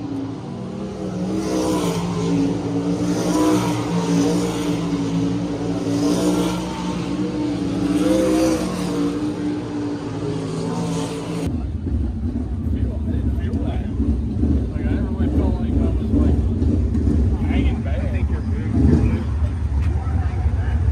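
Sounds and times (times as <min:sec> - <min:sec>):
race car engines revving: 0:00.0 - 0:20.9.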